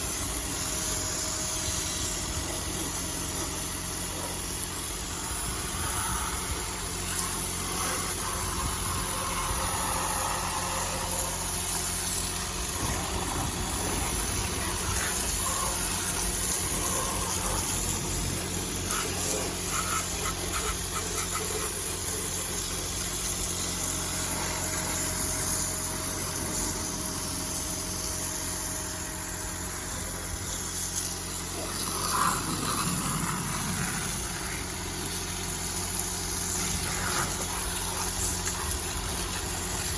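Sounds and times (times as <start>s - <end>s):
hose water splashing: 0.0s - 39.9s.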